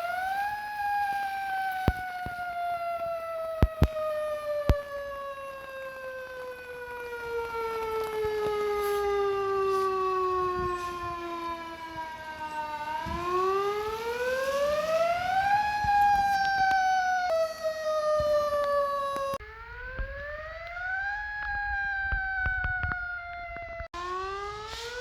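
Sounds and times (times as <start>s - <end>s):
fire engine siren winding: 0.0s - 25.0s.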